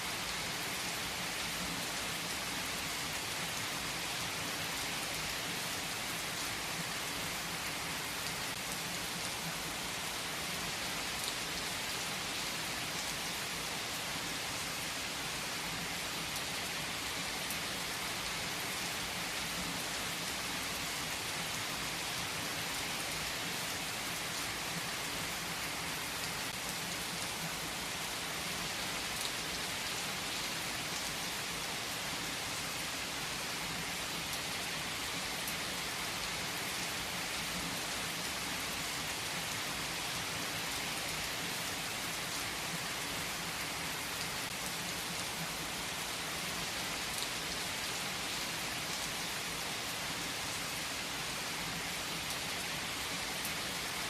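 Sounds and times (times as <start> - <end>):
rain pattering on a surface: 0.1 - 54.0.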